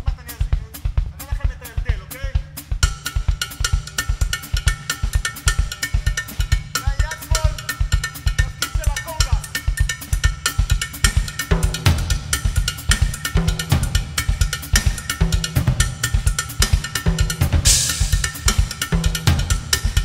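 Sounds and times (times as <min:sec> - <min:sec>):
drum kit samba groove: 0:00.0 - 0:20.0.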